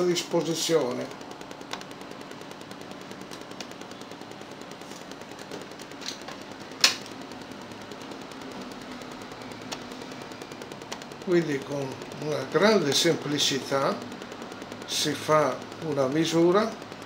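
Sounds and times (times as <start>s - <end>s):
chart recorder ticking: 0.0s - 17.0s
louder clicks: 0.0s - 17.0s
steady low hum: 0.0s - 17.0s.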